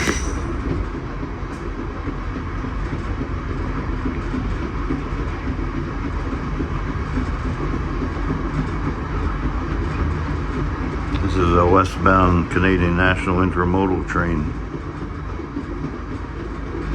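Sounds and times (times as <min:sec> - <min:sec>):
train rumbling along rails: 0:00.0 - 0:16.9.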